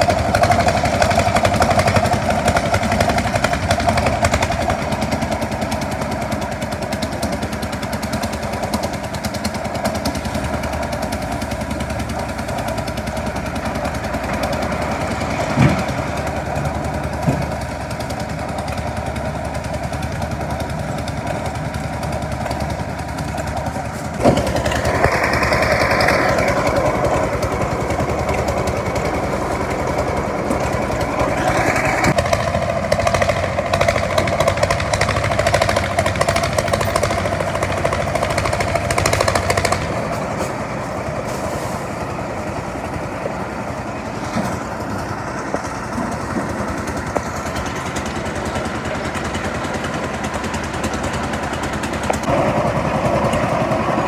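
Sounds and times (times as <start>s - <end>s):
engine chugging: 0.0s - 54.0s.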